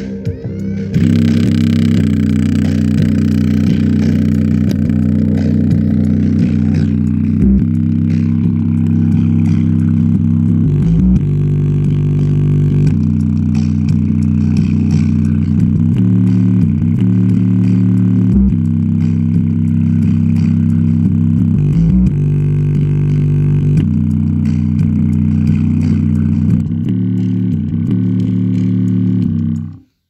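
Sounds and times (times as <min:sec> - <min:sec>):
deep bass music from speakers: 0:00.0 - 0:30.0.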